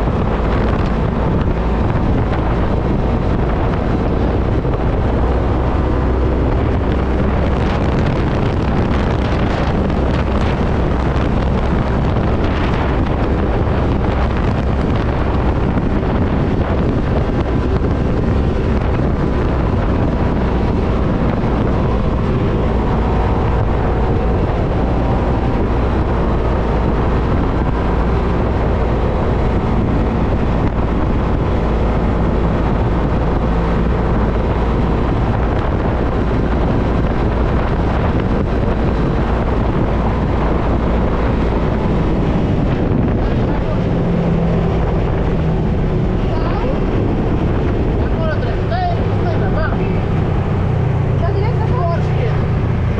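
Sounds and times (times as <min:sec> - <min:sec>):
vehicle engine running: 0:00.0 - 0:52.9
wind buffeting microphone: 0:00.0 - 0:52.9.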